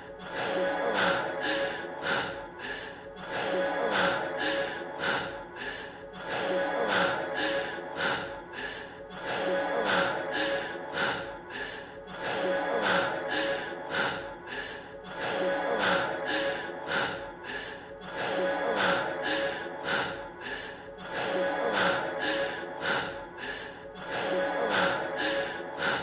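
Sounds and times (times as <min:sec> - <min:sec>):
man breathing heavily: 0:00.0 - 0:26.0.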